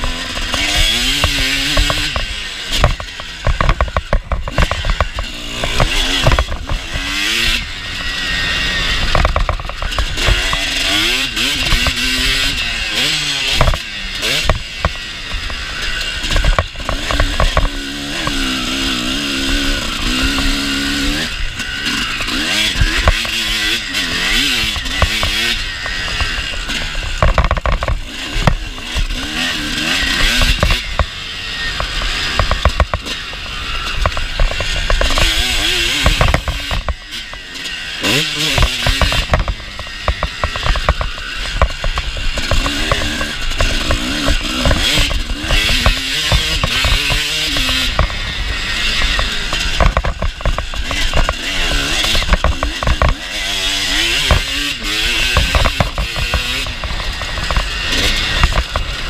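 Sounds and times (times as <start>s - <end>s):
bike clattering over bumps: 0.0s - 59.0s
motocross bike engine revving: 0.0s - 59.0s.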